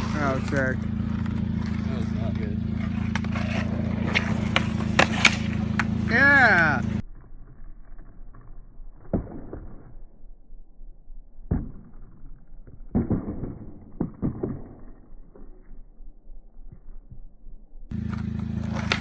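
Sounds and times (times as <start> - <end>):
skateboard wheels rolling on asphalt: 0.0 - 19.0.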